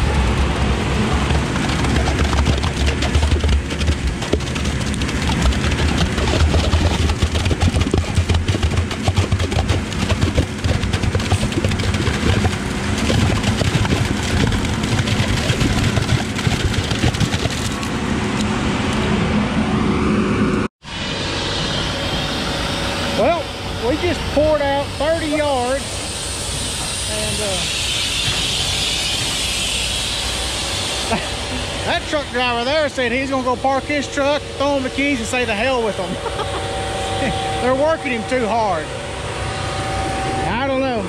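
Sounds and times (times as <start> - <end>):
heavy truck engine running: 0.0 - 29.4, 30.2 - 41.0.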